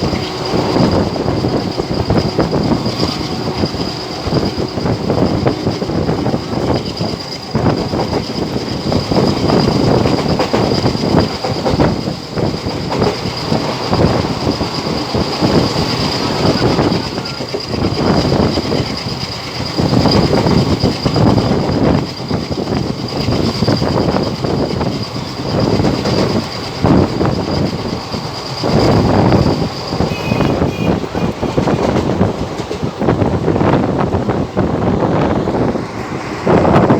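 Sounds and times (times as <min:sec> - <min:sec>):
train wheels clattering on rails: 0:00.0 - 0:36.9.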